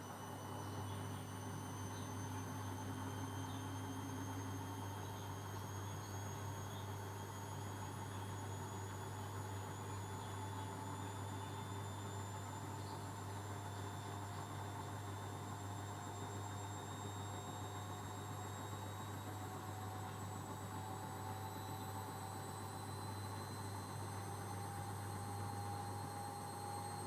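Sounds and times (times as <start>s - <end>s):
motor whine: 0.0s - 27.0s.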